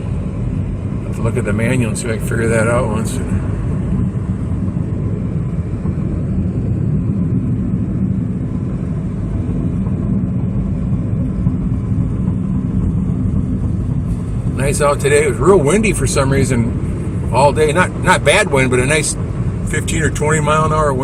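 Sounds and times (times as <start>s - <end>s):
vehicle engine and road drone: 0.0s - 21.0s.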